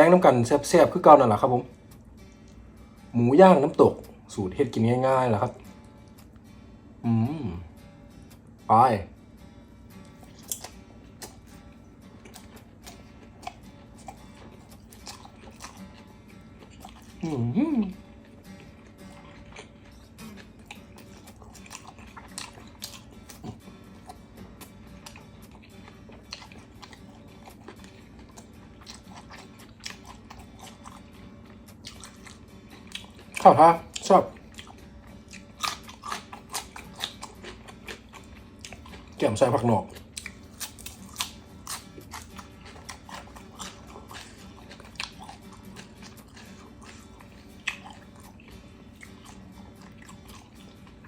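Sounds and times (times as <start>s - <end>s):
person chewing food: 10.0s - 51.0s.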